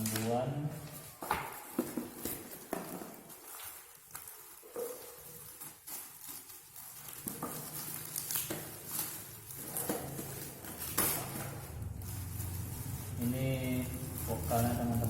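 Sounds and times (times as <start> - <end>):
cardboard packaging rustling: 0.8 - 15.0.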